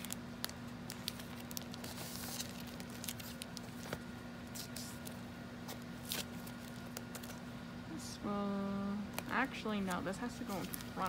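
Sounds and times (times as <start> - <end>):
paper and plastic sleeves handled: 0.0 - 7.4, 9.1 - 11.0.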